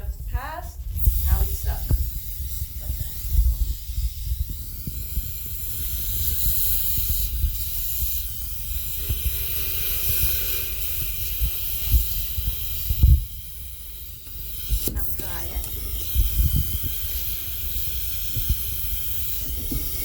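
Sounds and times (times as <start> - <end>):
dental suction hissing: 0.0 - 20.0.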